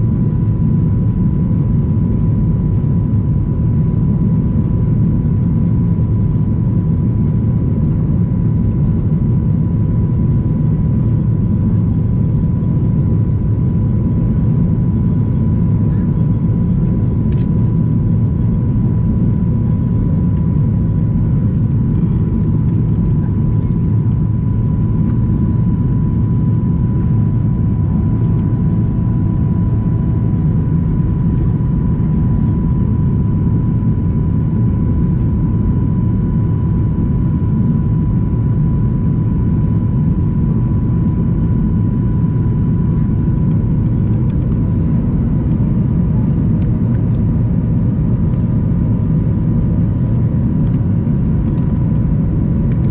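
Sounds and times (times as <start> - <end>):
jet engine and airflow rush: 0.0 - 52.9.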